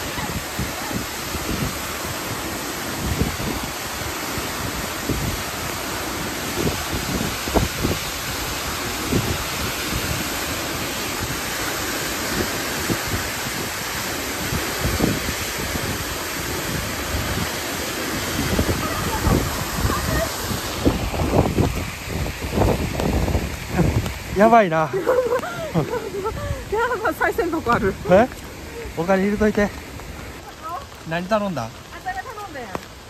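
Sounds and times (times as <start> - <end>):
wind buffeting microphone: 0.0 - 31.0
waterfall rushing: 0.0 - 33.0.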